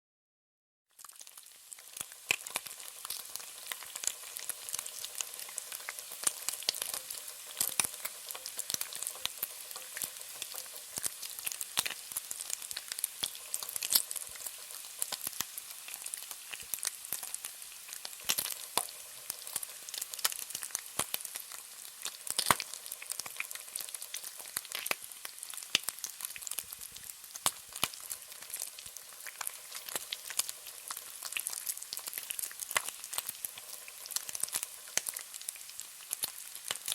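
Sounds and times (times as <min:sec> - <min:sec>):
bacon sizzling in a pan: 0:00.9 - 0:36.9
fat crackling and popping: 0:01.0 - 0:36.9.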